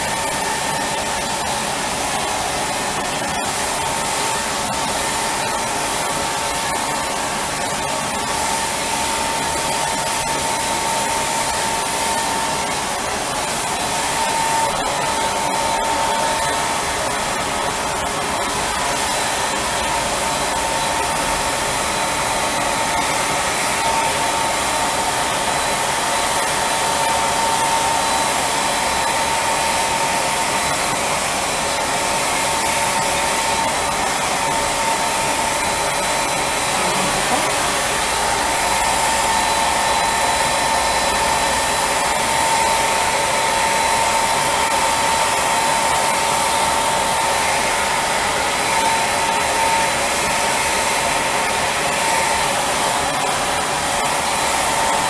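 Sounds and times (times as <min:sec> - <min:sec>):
high whine: 0:00.0 - 0:50.6
spray gun hissing: 0:00.0 - 0:55.0
turbine blower running: 0:00.0 - 0:55.0.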